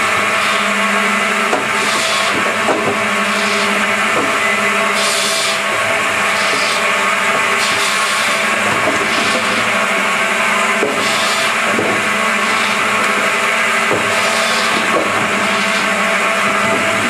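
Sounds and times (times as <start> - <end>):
circular saw cutting wood: 0.0 - 17.0
machine hum: 0.0 - 17.0.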